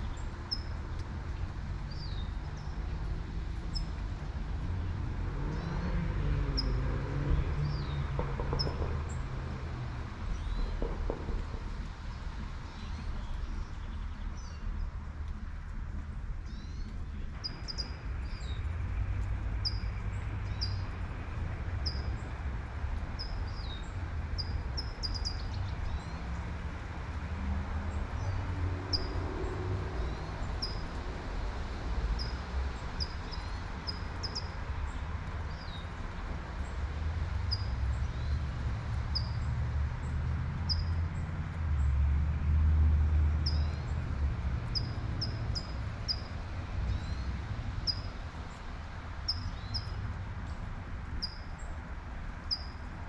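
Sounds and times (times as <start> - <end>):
passing traffic rumble: 0.0 - 53.0.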